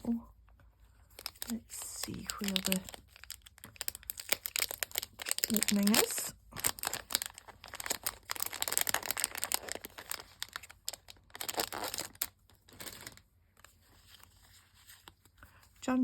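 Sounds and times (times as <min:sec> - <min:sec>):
packaging crinkling and rustling: 0:00.9 - 0:15.4.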